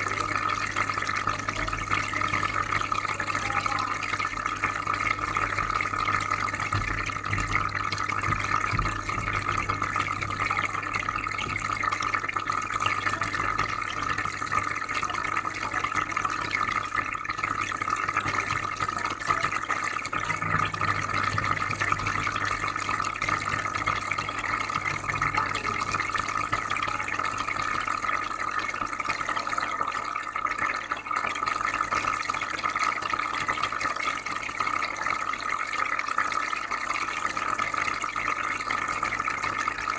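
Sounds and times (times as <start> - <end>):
aquarium filter hum: 0.0 - 39.9
water trickling and bubbling: 0.0 - 39.9.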